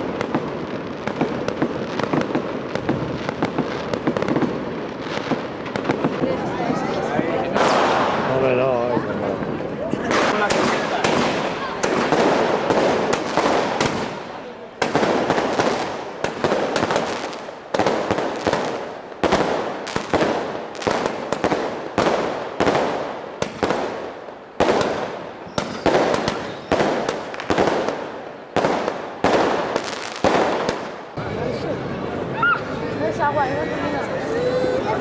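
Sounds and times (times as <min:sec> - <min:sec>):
fireworks bangs: 0:00.0 - 0:32.3.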